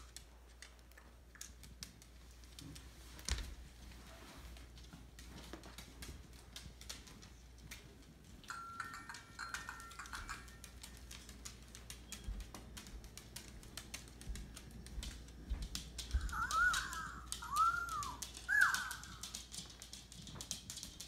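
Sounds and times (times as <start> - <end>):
dog toenails clicking on wood floor: 0.0 - 21.0.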